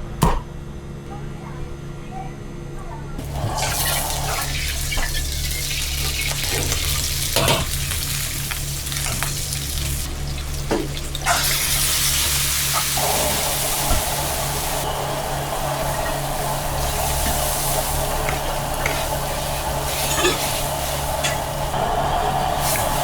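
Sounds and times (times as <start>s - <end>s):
food sizzling in hot oil: 3.2s - 23.0s.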